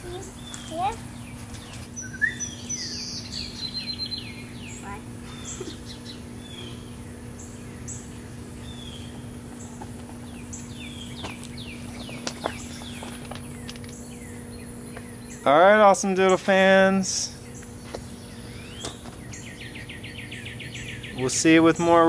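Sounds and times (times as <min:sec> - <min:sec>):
songbirds chirping: 0:00.0 - 0:22.0
steady low hum: 0:00.0 - 0:22.0
bird trill: 0:01.6 - 0:15.6, 0:17.3 - 0:22.0.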